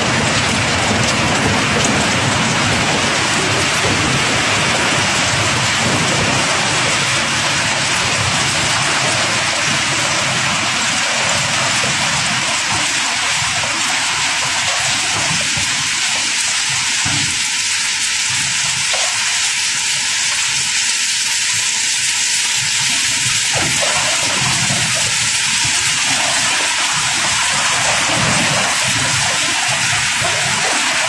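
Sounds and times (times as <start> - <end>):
cobblestones pouring clatter: 0.0 - 31.0.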